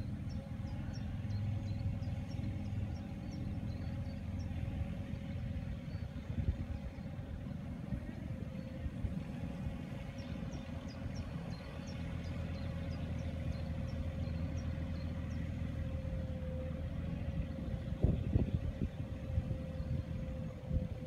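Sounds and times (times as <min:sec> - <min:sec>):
distant excavator engine rumbling: 0:00.0 - 0:21.0.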